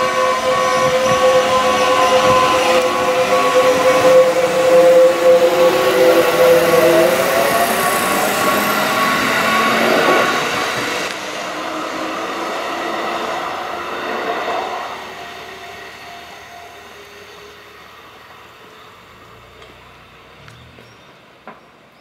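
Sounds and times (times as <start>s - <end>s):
electric train passing: 0.0s - 22.0s
train whine: 0.0s - 22.0s.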